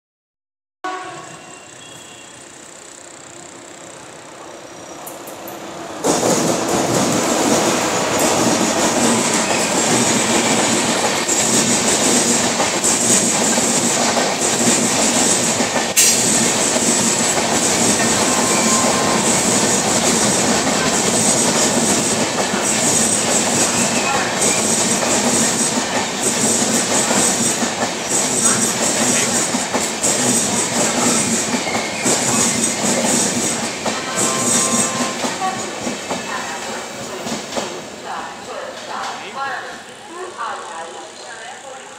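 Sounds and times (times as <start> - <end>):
train wheels rumbling on rails: 5.0 - 41.9.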